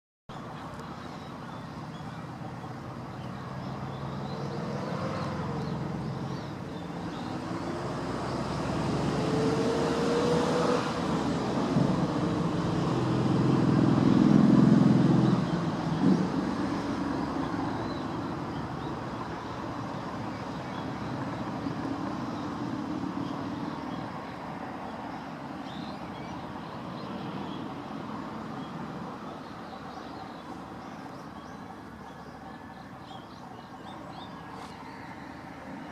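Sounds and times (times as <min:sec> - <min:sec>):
motor vehicle passing by: 0:01.0 - 0:35.9.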